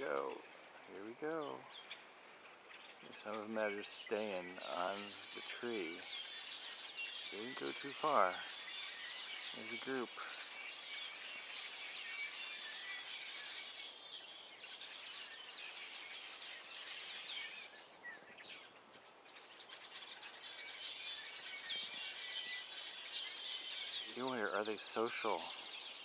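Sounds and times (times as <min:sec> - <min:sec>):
flock of small birds chattering: 0:00.0 - 0:26.0.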